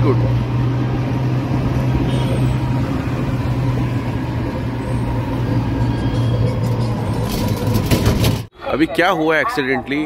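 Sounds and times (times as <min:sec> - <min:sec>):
vehicle engine humming: 0:00.0 - 0:08.4
city street traffic: 0:00.0 - 0:10.0.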